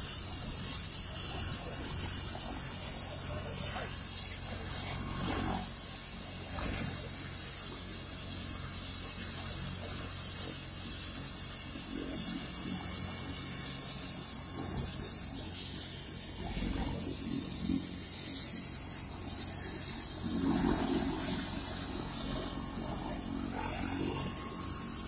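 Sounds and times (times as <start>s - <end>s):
helicopter rotor hum: 0.0s - 25.0s
helicopter turbine hiss: 0.0s - 25.0s.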